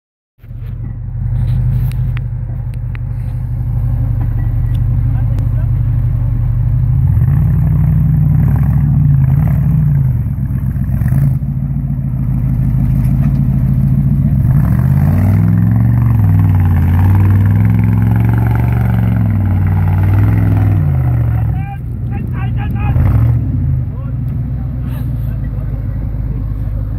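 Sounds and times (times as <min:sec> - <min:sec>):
truck engine revving: 0:00.8 - 0:26.9.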